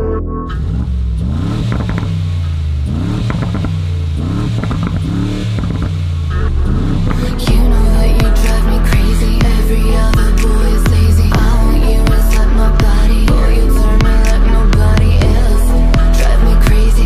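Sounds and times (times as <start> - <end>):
bass-heavy music: 0.0 - 17.0
car engine accelerating: 0.0 - 17.0
exhaust crackles: 0.0 - 17.0.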